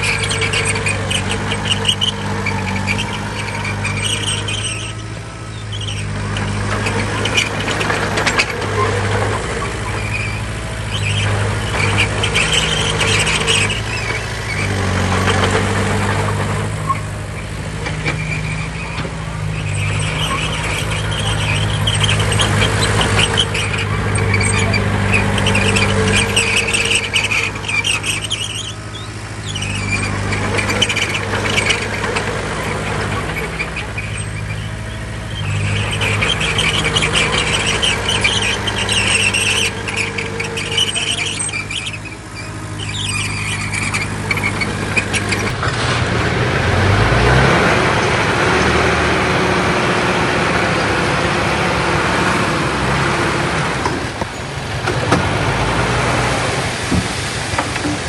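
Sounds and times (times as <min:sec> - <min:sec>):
bulldozer diesel engine running: 0:00.0 - 0:58.0
crawler tracks squealing: 0:00.0 - 0:58.0.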